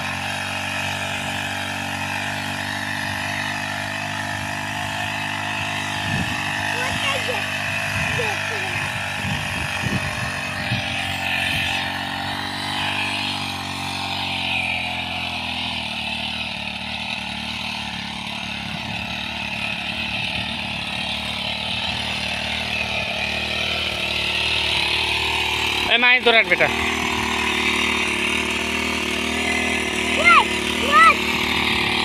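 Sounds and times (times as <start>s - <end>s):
small two-stroke engine running: 0.0s - 32.0s.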